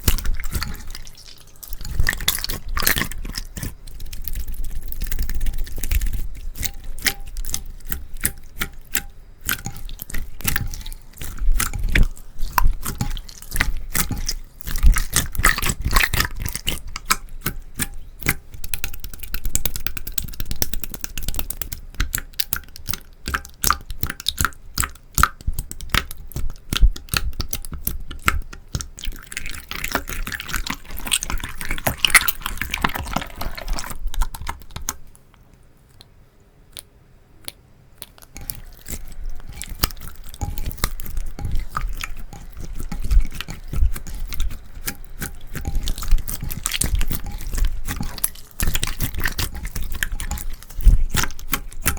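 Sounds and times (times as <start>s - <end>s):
slime squelching by hand: 0.0s - 36.1s, 36.7s - 51.9s.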